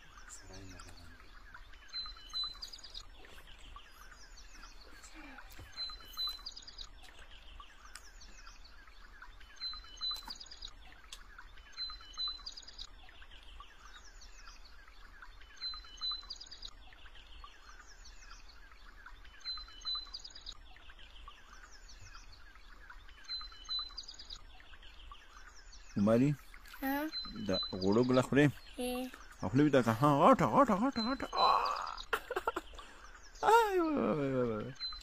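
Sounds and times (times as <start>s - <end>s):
background bird chirping: 0.0s - 35.0s
bird singing repeated phrase: 0.0s - 35.0s.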